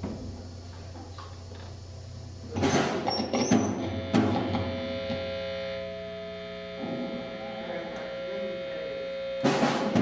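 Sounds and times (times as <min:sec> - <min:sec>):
electrical hum through speakers: 0:00.0 - 0:10.0.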